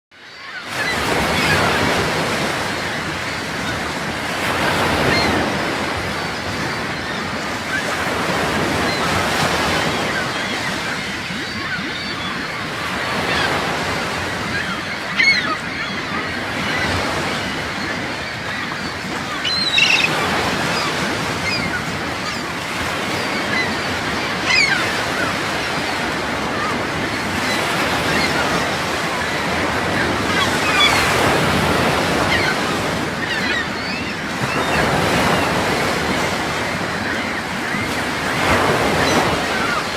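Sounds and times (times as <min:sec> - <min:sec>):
ocean waves washing onto shore: 0:00.2 - 0:39.9
high bird calls: 0:06.1 - 0:39.9.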